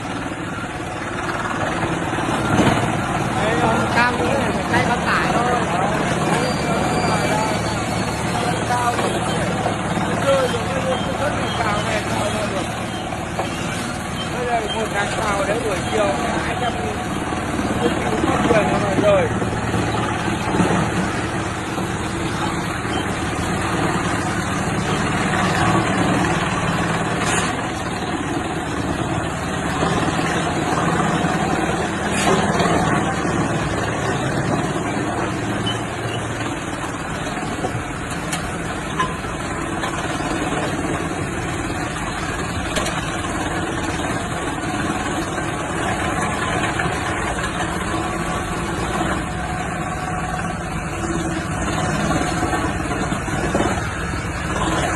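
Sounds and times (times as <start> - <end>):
wood chipper running: 0.0 - 54.9.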